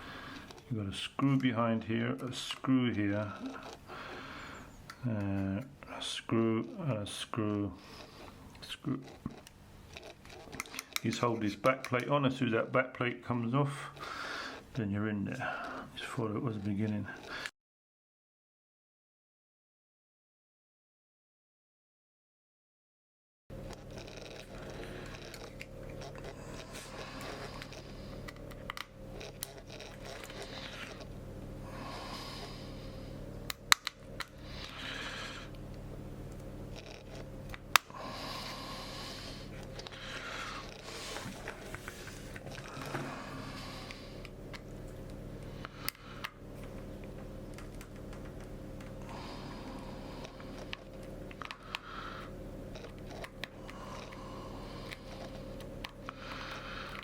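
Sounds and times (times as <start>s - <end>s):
steady low hum: 0.0s - 17.5s, 23.5s - 57.0s.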